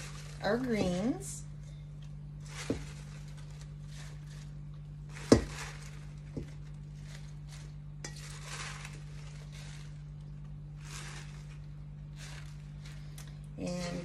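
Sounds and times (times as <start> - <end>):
spinach leaves rustling: 0.0 - 14.0.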